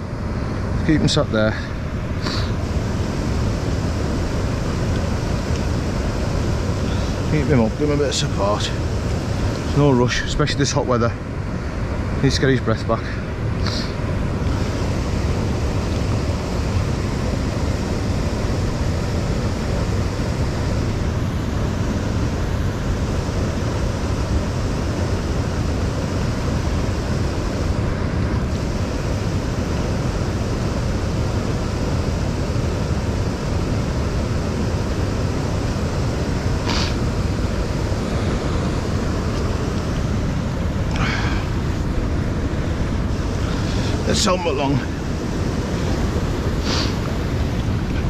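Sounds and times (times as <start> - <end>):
river water rushing: 1.7 - 10.3, 13.4 - 48.0.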